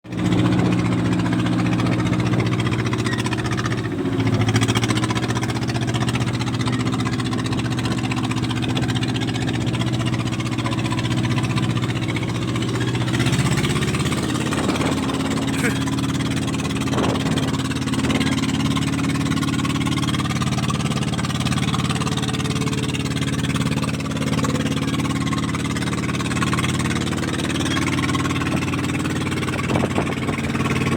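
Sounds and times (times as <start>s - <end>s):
engine humming: 0.1s - 30.9s.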